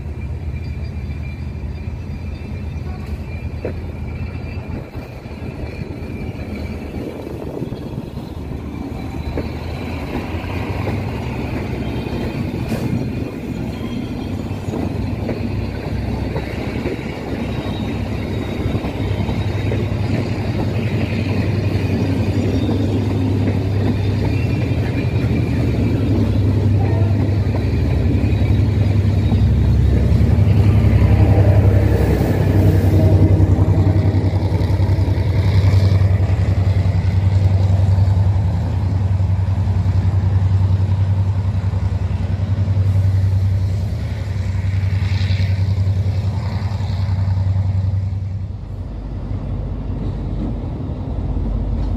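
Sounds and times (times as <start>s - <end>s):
diesel locomotive engine drone: 0.0s - 51.9s
train wheels rumbling on rails: 0.0s - 51.9s.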